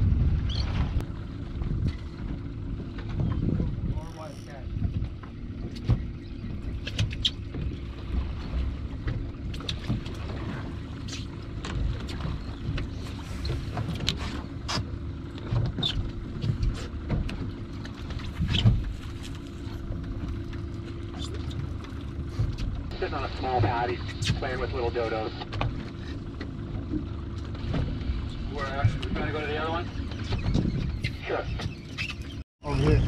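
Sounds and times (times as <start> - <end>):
outboard motor idling: 0.0 - 33.0.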